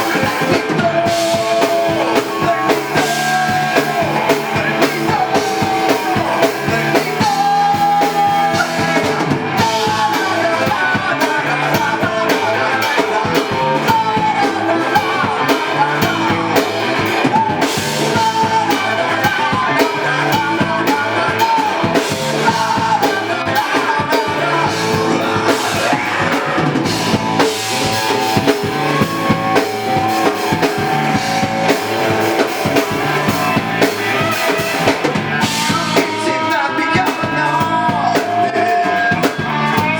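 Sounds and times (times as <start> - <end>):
drum kit beat: 0.0 - 39.9
electric guitars: 0.0 - 39.9
person singing: 0.0 - 39.9.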